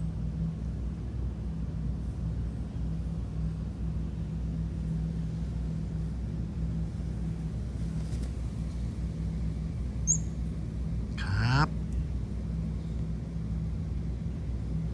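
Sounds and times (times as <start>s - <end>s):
low mechanical hum: 0.0s - 14.9s.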